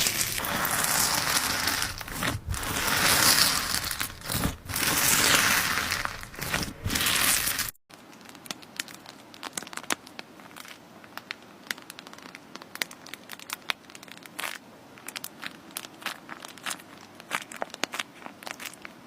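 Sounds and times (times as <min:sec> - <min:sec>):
crinkling noise: 0:00.0 - 0:19.0.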